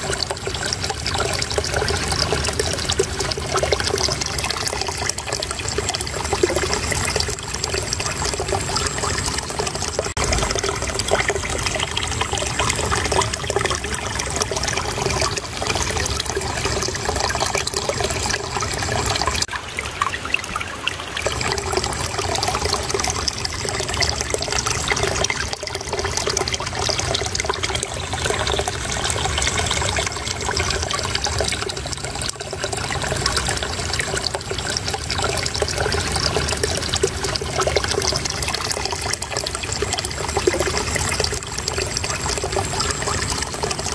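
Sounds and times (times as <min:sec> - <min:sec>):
water trickling over stones: 0:00.0 - 0:43.9.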